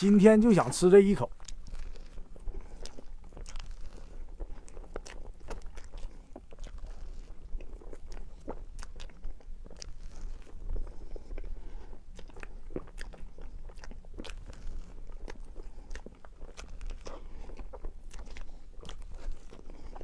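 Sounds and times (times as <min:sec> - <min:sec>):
wet chewing mouth clicks: 0:00.0 - 0:20.0.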